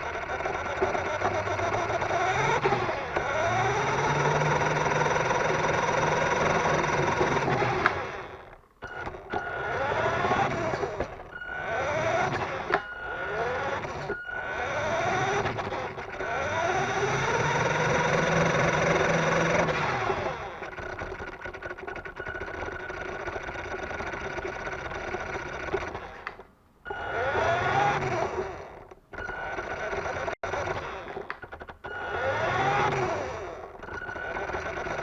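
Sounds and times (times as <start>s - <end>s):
toy car electric motor whining: 0.0s - 35.0s.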